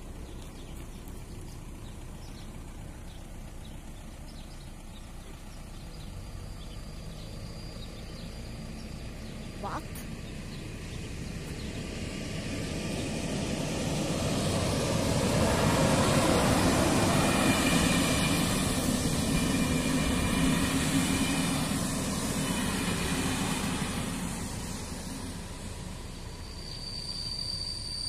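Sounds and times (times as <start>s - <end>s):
passenger train passing: 0.0s - 28.0s.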